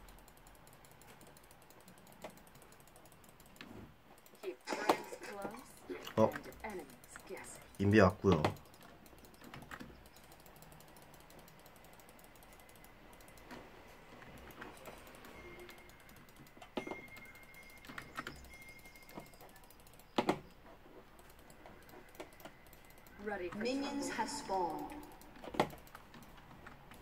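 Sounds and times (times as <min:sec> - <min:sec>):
computer keyboard clicks: 0:00.0 - 0:27.0.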